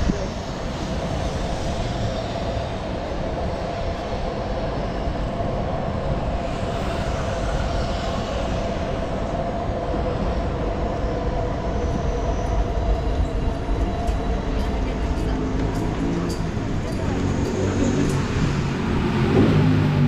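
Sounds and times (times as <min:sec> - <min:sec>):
electric train rumbling past: 0:00.0 - 0:20.0.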